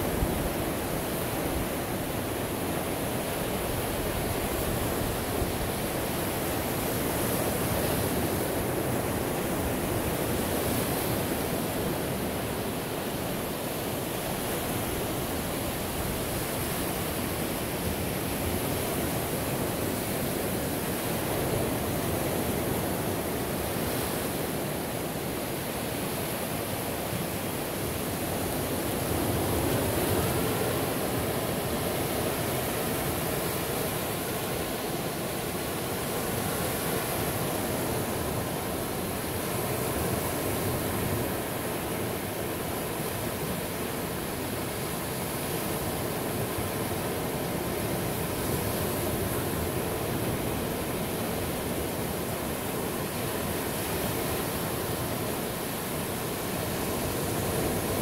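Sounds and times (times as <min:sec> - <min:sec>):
ocean surf washing ashore: 0:00.0 - 0:58.0.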